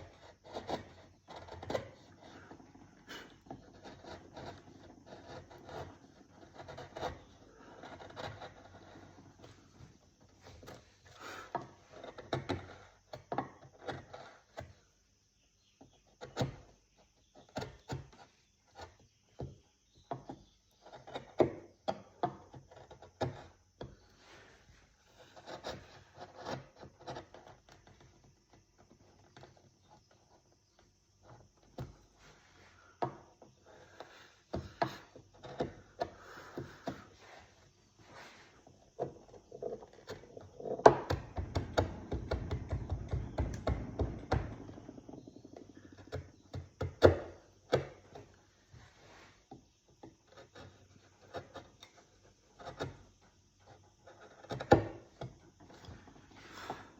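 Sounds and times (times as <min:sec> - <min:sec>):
hand tool scraping wood: 0:00.0 - 0:15.0, 0:15.9 - 0:56.9.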